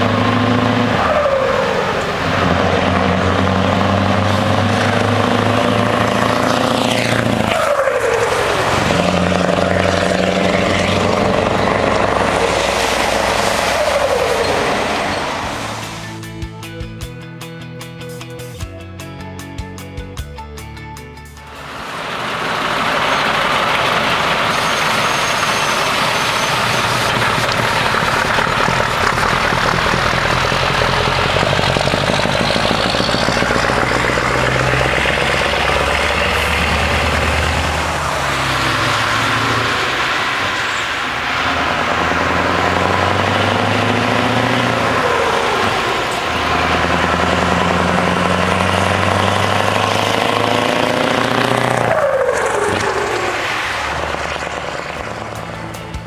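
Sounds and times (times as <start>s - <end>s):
diesel truck accelerating through gears: 0.0s - 56.0s.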